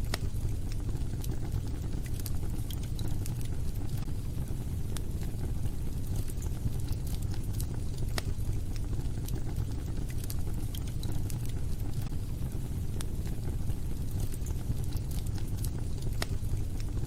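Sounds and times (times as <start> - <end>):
fire burning with low rumble: 0.0 - 17.0
fire crackling and popping: 0.0 - 17.0.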